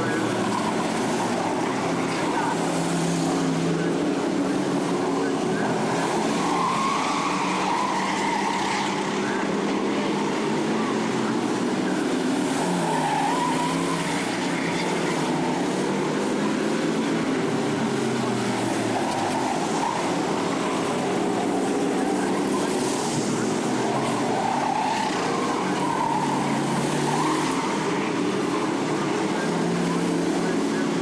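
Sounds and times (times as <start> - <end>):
race car engines running hard: 0.0 - 31.0.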